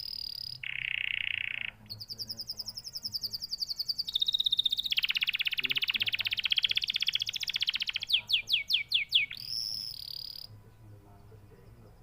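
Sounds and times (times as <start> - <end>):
canary singing: 0.0 - 12.0.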